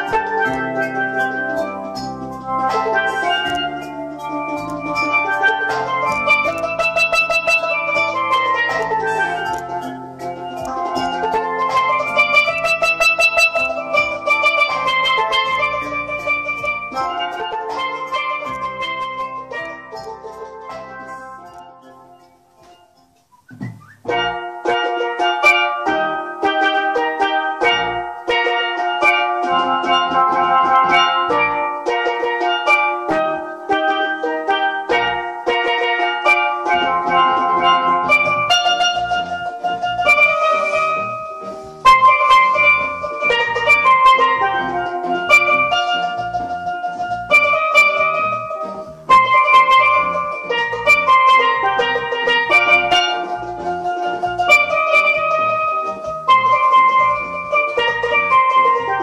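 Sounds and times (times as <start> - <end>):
steelpan melody: 0.0 - 59.0.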